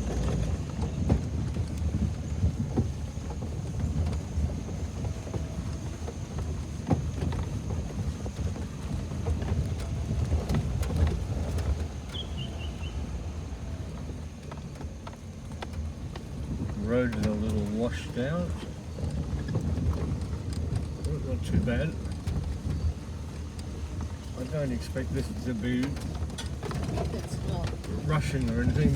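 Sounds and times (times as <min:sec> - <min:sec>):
knocks and rattles: 0:00.0 - 0:28.9
vehicle driving on dirt road: 0:00.0 - 0:28.9.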